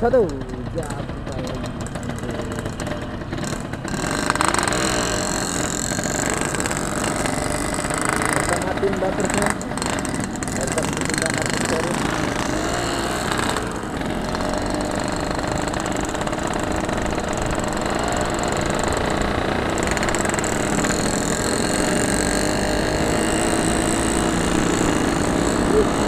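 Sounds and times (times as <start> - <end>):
two-stroke motorcycle engine running: 0.0 - 26.0.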